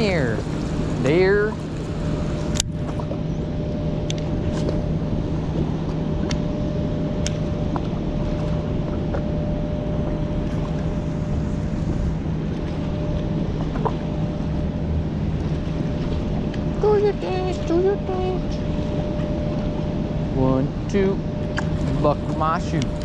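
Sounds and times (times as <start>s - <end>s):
low hum: 0.0s - 23.0s
steady rushing noise: 0.0s - 23.0s.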